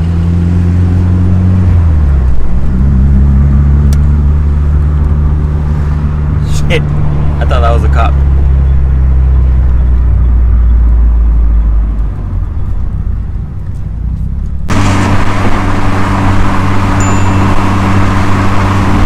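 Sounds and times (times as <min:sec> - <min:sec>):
car engine droning: 0:00.0 - 0:19.0
road and wind noise: 0:00.0 - 0:19.0.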